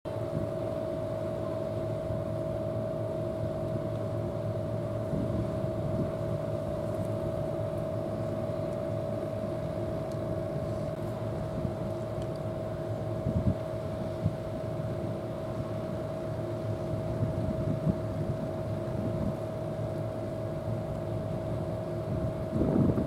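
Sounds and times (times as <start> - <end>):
machine drone: 0.1 - 23.0.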